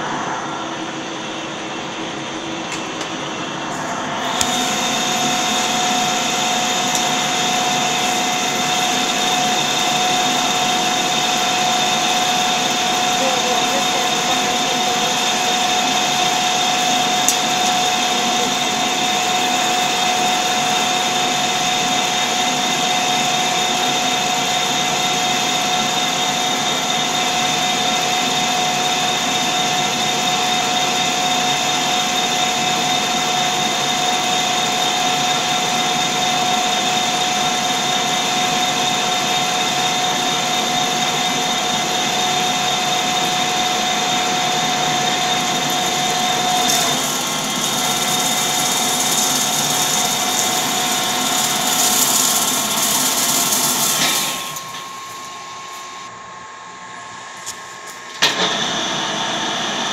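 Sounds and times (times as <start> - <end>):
lathe running: 0.0 - 56.1
high machine whine: 0.0 - 59.9
mid-pitched machine whine: 0.0 - 59.9.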